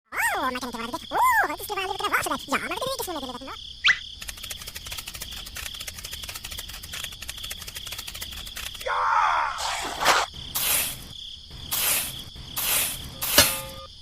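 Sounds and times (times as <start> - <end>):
crickets chirping: 0.2 - 14.0.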